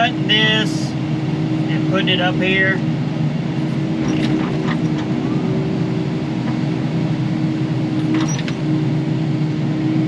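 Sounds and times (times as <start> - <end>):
excavator engine and hydraulics: 0.0 - 10.0.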